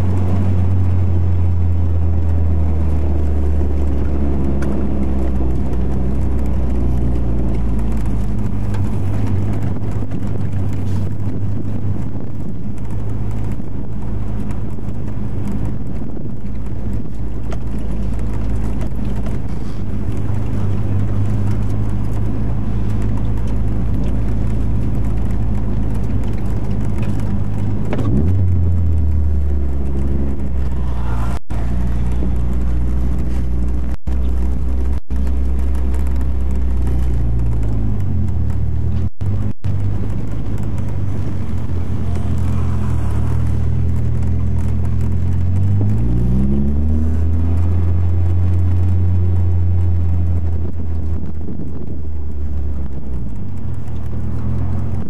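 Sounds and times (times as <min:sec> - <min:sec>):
car engine drone inside cabin: 0:00.0 - 0:55.0.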